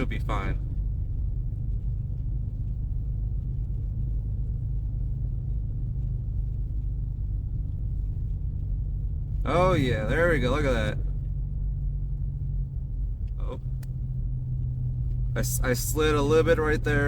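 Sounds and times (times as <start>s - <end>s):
car engine under load: 0.0s - 17.0s.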